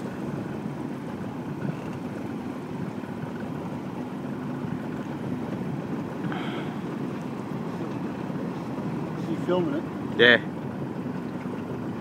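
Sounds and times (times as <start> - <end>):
boat engine rumbling: 0.0 - 12.0
water washing: 0.0 - 12.0.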